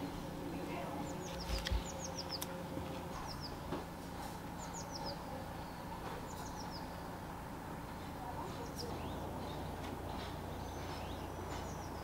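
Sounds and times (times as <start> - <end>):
faint steady hum: 0.0 - 12.0
songbird chirping: 0.0 - 12.0.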